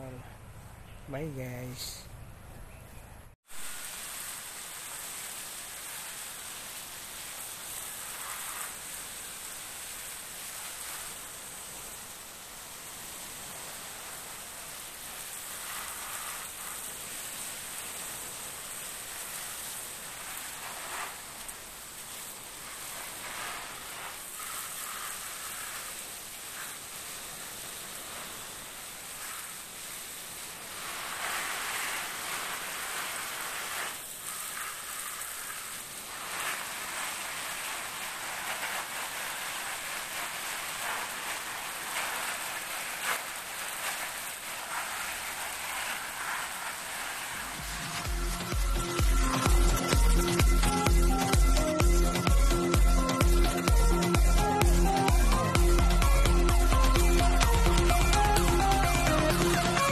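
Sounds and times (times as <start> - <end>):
hose water spraying: 3.4 - 59.9.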